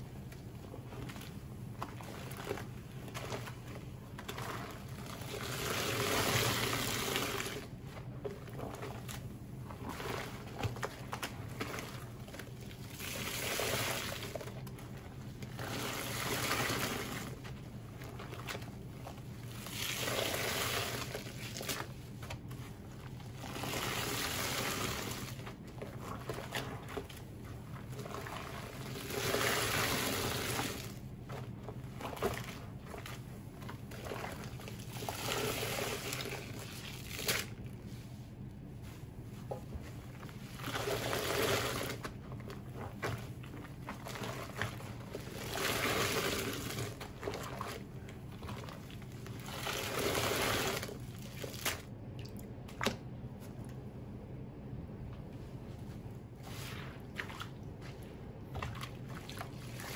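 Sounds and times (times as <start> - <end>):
wet paste squishing: 0.1 - 53.8, 56.4 - 59.9.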